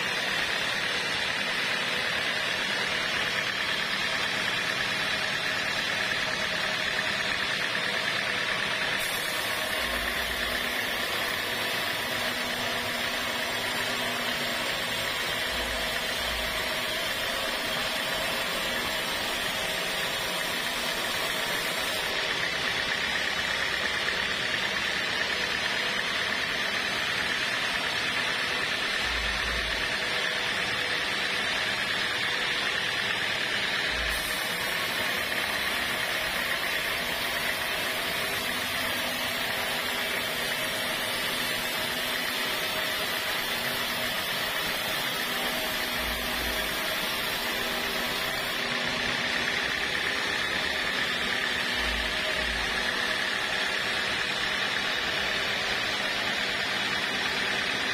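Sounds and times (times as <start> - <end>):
band sawmill cutting wood: 0.0 - 57.9.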